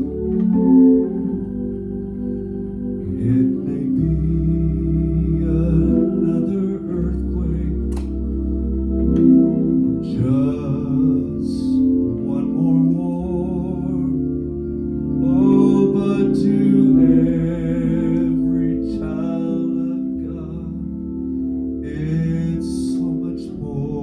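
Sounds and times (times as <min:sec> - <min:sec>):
organ playing a gospel hymn: 0:00.0 - 0:24.0.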